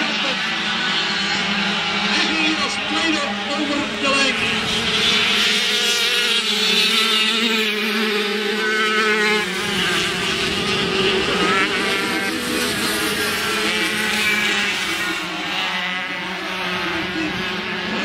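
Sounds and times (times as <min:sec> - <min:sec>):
racing motorcycles revving: 0:00.0 - 0:18.0.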